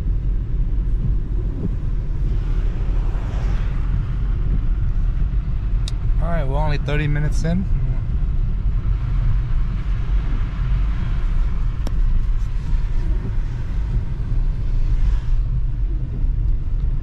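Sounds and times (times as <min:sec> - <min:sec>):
tyres and engine rumble: 0:00.0 - 0:17.0.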